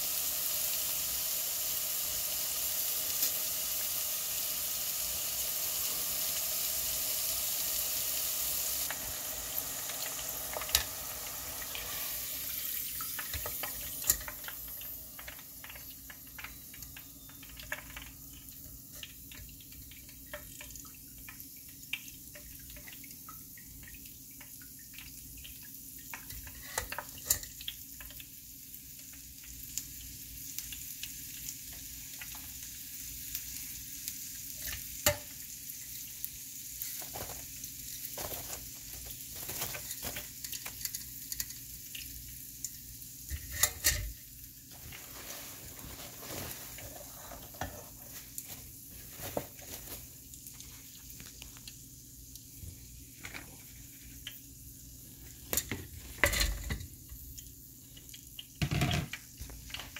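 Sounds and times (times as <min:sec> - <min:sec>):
oil sizzling in a deep fryer: 0:00.0 - 0:59.9.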